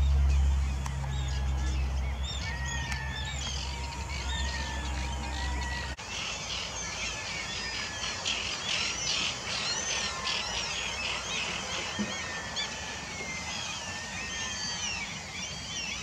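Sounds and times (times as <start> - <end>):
flock of birds calling: 0.0 - 16.0.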